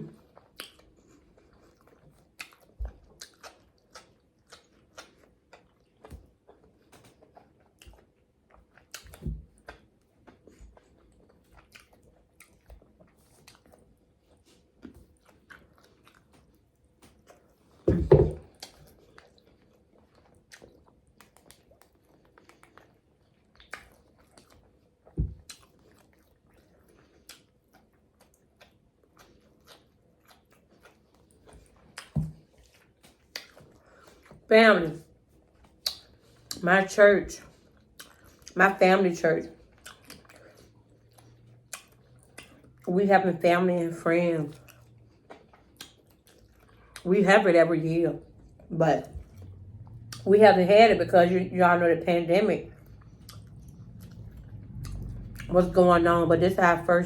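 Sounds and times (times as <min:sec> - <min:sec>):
close chewing and crunching: 0:00.0 - 0:57.0.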